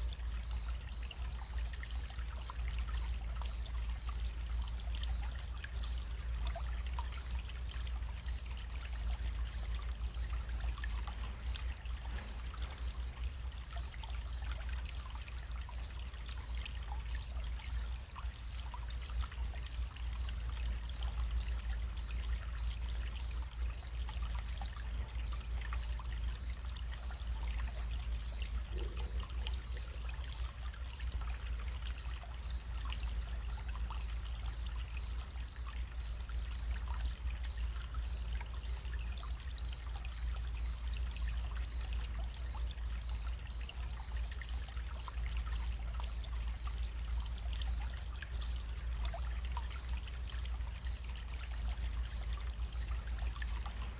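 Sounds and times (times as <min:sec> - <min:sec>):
stream trickling: 0:00.0 - 0:53.9.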